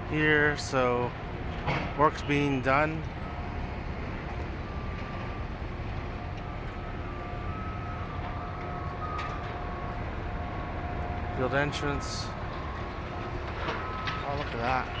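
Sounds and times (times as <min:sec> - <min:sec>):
traffic rumble: 0:00.0 - 0:15.0
faint whining tones: 0:00.1 - 0:15.0.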